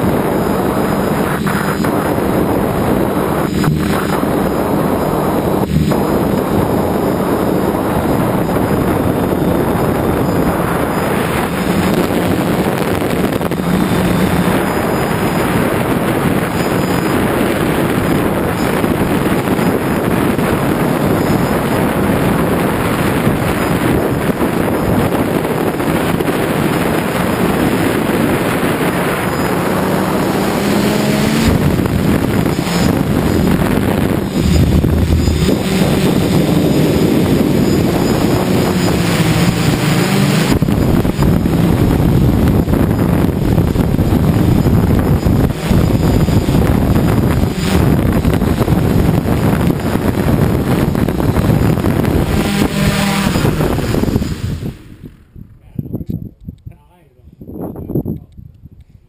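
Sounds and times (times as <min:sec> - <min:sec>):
drone motors buzzing: 0:00.0 - 0:55.1
wind rushing over microphone: 0:00.0 - 0:59.0.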